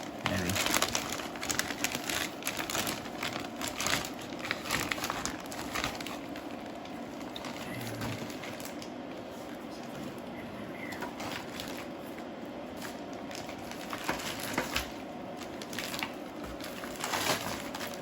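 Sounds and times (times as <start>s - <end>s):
plastic bag crinkling: 0.0s - 9.0s, 10.8s - 18.0s.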